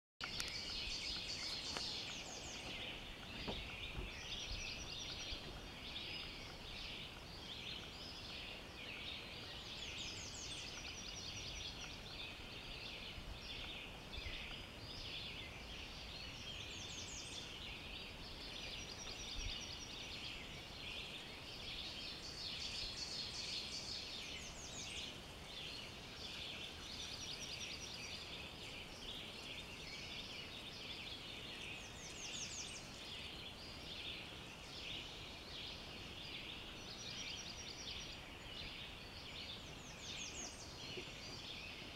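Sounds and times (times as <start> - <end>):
songbirds singing: 0.2 - 41.9.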